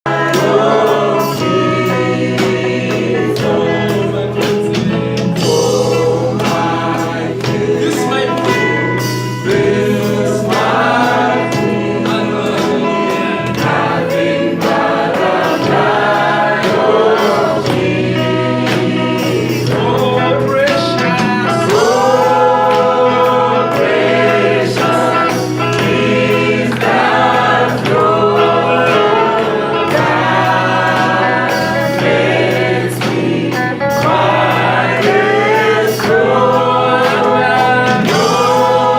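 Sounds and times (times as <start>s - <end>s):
choir singing gospel music: 0.0s - 38.9s.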